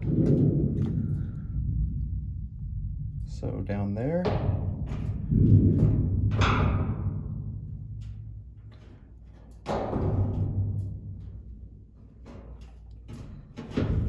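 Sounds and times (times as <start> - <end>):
deep metal cabinet booms: 0.0 - 12.2, 13.3 - 14.0.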